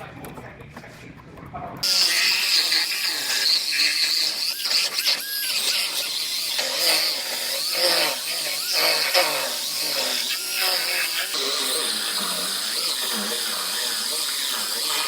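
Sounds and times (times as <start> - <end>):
power tool cutting sheet metal: 1.8 - 15.0.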